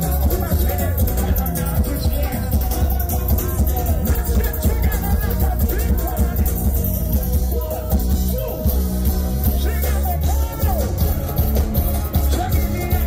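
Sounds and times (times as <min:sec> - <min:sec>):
live band playing calypso: 0:00.0 - 0:13.0.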